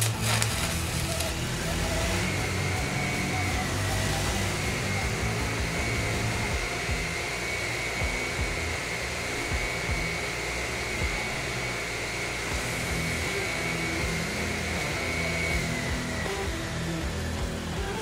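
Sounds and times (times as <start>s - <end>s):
welder engine humming with whine: 0.0s - 18.0s.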